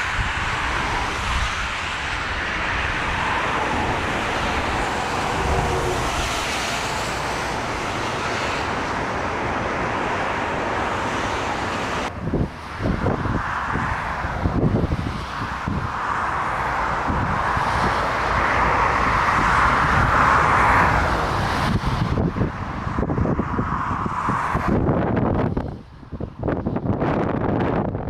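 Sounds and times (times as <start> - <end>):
jet engines roaring: 0.0 - 27.6
strong wind: 0.0 - 28.0
wind buffeting microphone: 0.0 - 28.0.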